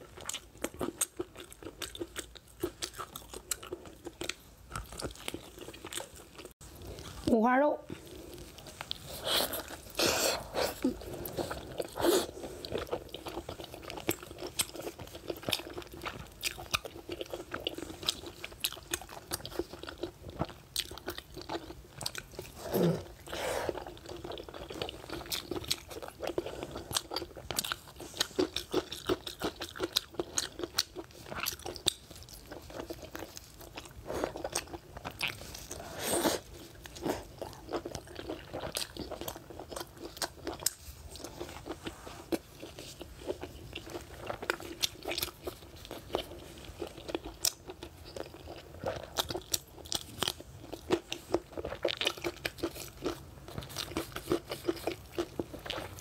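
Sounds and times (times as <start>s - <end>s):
person chewing meat: 0.0s - 7.3s, 7.9s - 56.0s.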